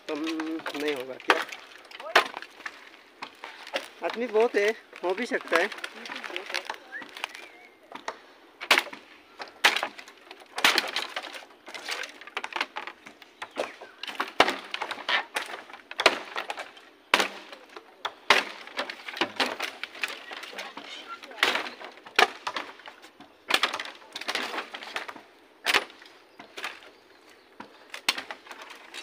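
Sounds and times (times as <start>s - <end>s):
dry bamboo cracking and snapping: 0.0s - 29.0s.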